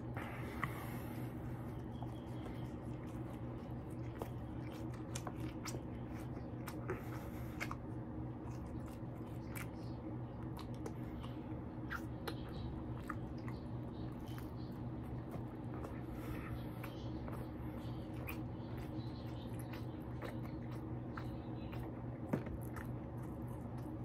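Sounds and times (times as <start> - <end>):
low hum: 0.0 - 24.0
person chewing food: 0.0 - 24.0.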